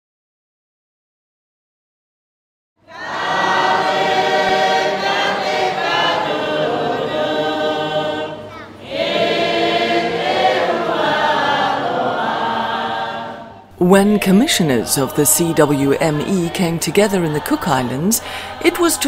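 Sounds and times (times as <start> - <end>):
choir singing: 2.8 - 19.0.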